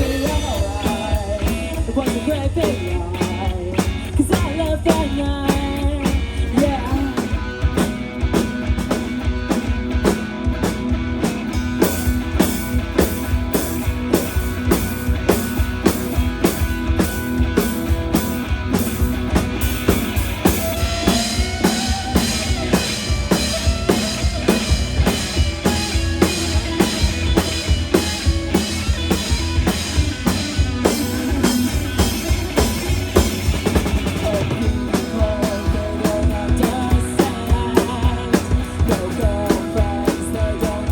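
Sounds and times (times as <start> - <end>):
drum kit beat: 0.0 - 40.9
rock band playing: 0.0 - 40.9.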